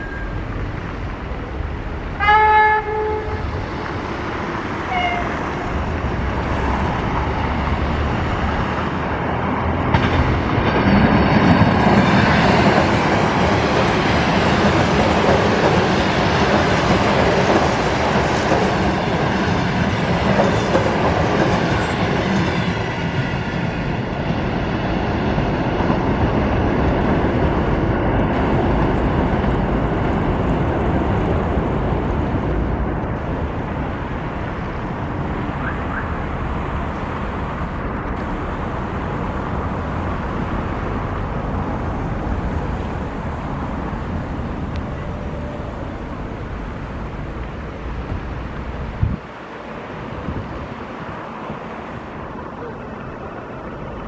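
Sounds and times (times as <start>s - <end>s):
train wheels rushing on rails: 0.0s - 54.0s.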